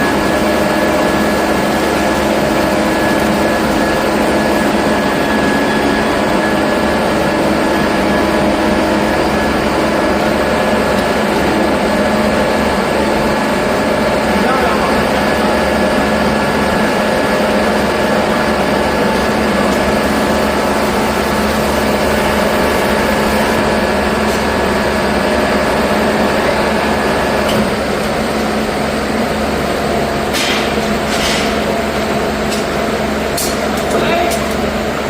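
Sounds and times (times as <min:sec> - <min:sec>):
machinery humming: 0:00.0 - 0:35.0.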